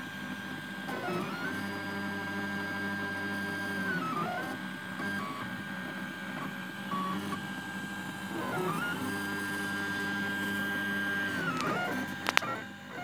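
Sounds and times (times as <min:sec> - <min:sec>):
printer stepper motors whining: 0:00.0 - 0:13.0.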